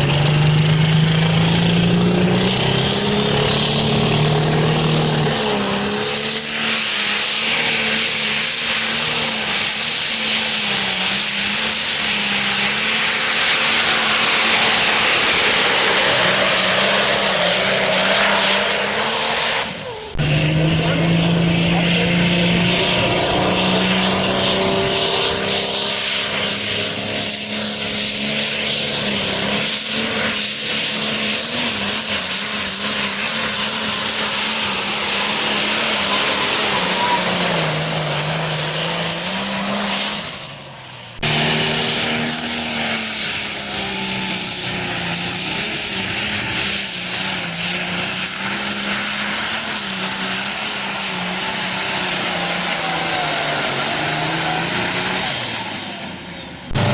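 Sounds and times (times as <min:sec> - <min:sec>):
diesel engine with turbo whine: 0:00.0 - 0:56.9.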